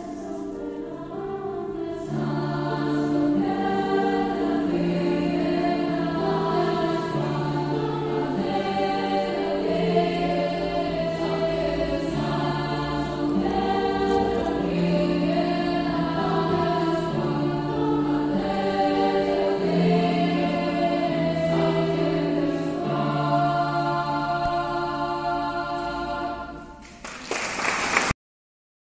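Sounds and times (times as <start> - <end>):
choir singing: 0.0 - 27.3.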